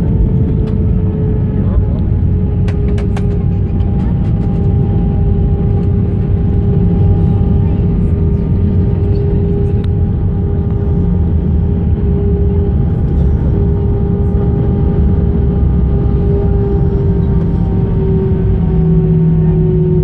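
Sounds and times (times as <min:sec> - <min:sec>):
jet airliner engine rumble: 0:00.0 - 0:20.0.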